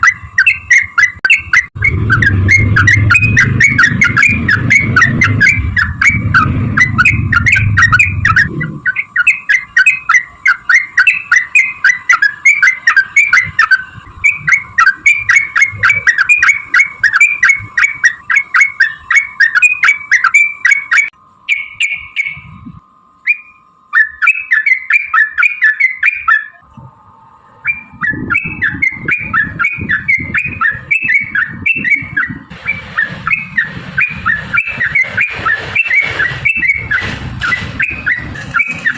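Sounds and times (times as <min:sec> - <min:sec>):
bulbul chattering call: 0:00.0 - 0:22.5, 0:23.2 - 0:26.7, 0:27.6 - 0:38.9.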